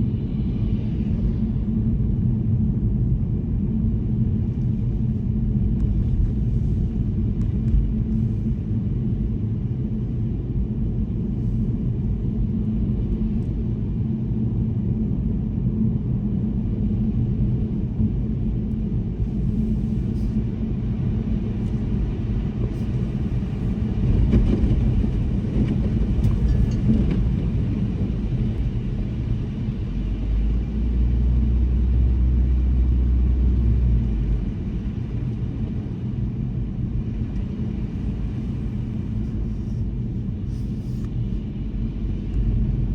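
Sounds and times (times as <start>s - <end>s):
car engine and tyres rumble: 0.0s - 42.9s
deeper drone: 0.0s - 42.9s.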